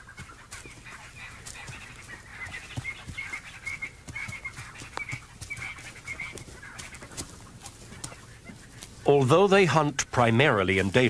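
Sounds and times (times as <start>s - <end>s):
high chirping animal calls: 0.0s - 9.6s.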